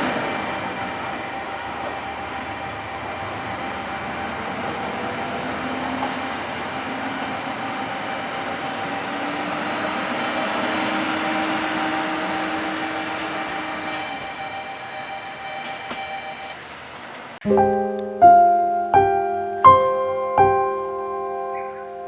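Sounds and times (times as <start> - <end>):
diesel train engine: 0.0 - 17.9.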